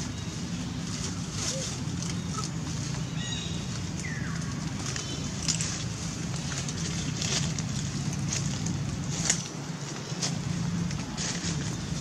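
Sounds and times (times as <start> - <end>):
dry leaves crackling: 0.0 - 12.0
steady low hum: 0.0 - 12.0.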